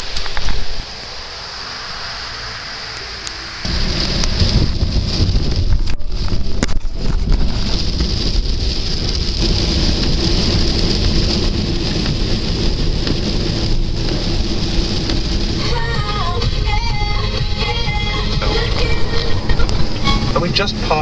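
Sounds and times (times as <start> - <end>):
low engine and road rumble: 0.0 - 21.0
tyres hissing on wet road: 0.0 - 21.0.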